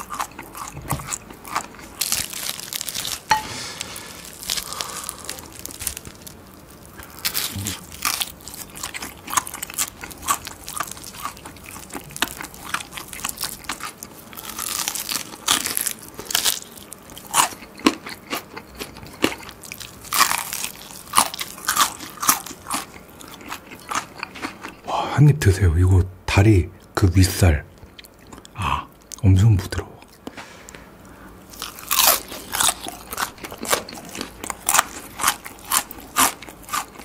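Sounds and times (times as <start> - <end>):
crunchy fried chicken being chewed: 0.0 - 24.8, 29.9 - 37.0.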